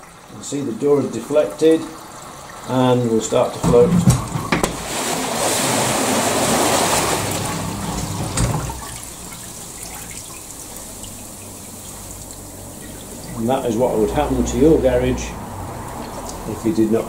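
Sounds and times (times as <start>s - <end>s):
floodwater gushing: 0.0s - 17.0s.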